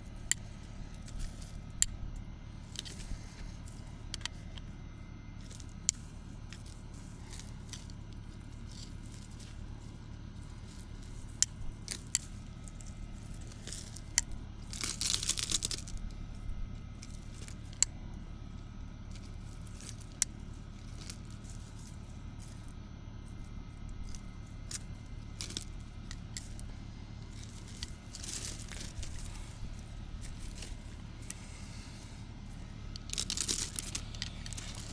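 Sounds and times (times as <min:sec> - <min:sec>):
brush crunching and tearing: 0:00.0 - 0:34.9
weeds snapping: 0:05.4 - 0:18.0, 0:19.1 - 0:34.9.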